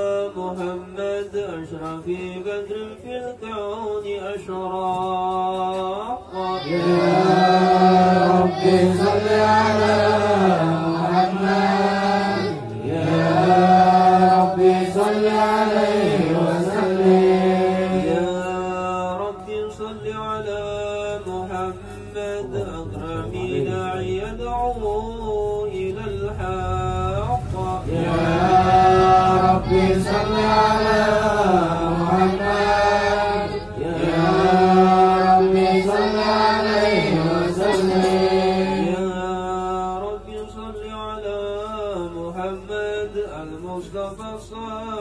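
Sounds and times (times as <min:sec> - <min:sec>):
male group chanting: 0:04.4 - 0:40.6.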